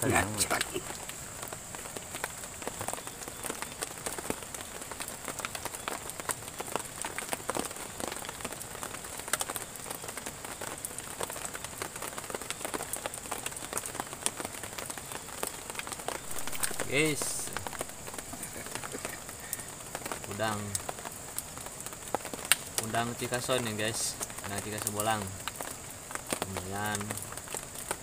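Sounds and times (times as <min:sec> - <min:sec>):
rain drops pattering: 0:00.0 - 0:28.0
steady rainfall: 0:00.0 - 0:28.0.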